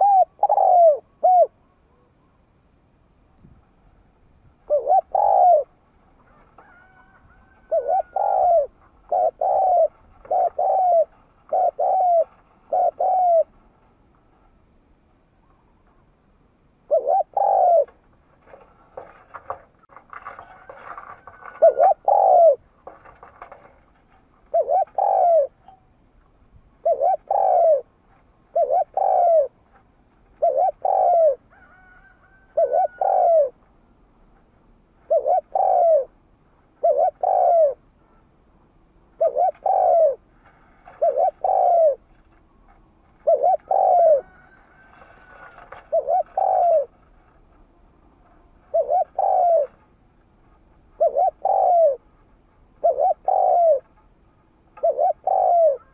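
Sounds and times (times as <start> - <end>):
dove cooing: 0.0 - 2.4, 4.6 - 13.9, 16.8 - 25.9, 26.8 - 33.6, 35.0 - 38.3, 39.0 - 54.1, 54.7 - 55.9.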